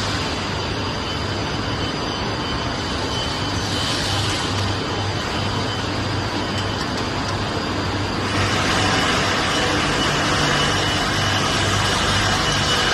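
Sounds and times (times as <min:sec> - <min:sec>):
furnace line hiss and rumble: 0:00.0 - 0:12.9.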